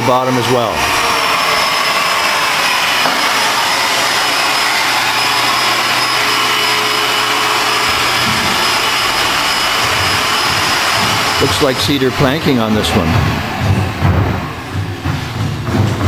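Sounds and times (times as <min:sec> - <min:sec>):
high machine whine: 0:00.0 - 0:16.0
woodworking machinery running: 0:00.0 - 0:16.0.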